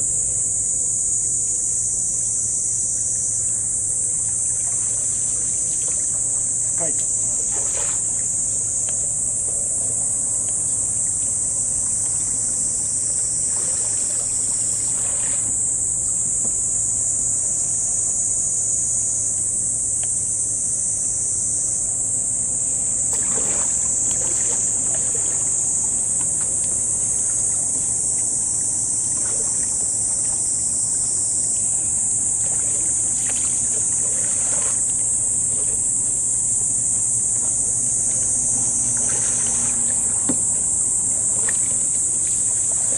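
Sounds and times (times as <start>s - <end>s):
faint low hum: 0.0s - 42.9s
insect chorus buzzing: 0.0s - 42.9s.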